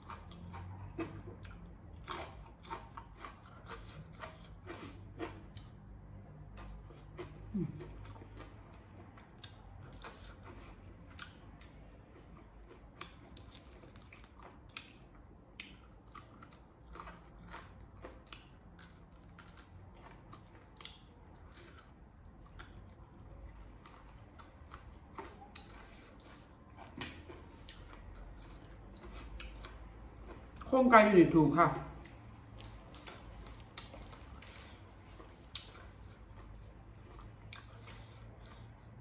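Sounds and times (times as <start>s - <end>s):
chewing crispy fried chicken: 0.0s - 30.8s, 32.0s - 39.0s.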